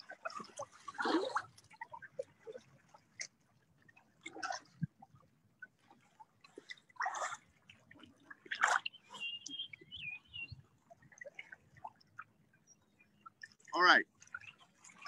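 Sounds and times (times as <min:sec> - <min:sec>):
paddles splashing in water: 0:00.0 - 0:15.0.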